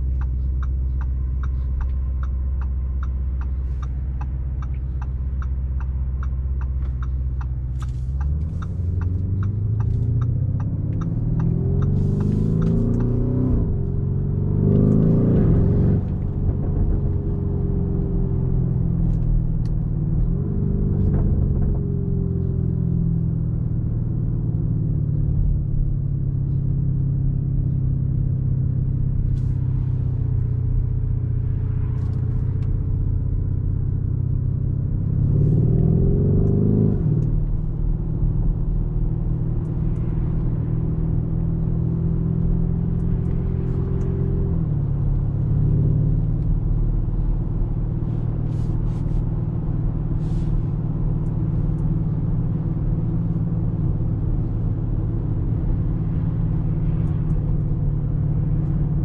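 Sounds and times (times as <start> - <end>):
car engine accelerating through gears: 0.0 - 59.0
turn signal ticking: 0.0 - 59.0.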